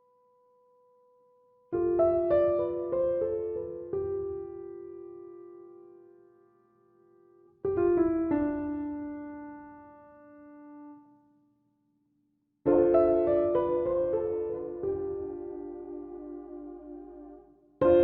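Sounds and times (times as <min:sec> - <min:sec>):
soft piano music: 0:01.6 - 0:11.3, 0:12.7 - 0:18.0.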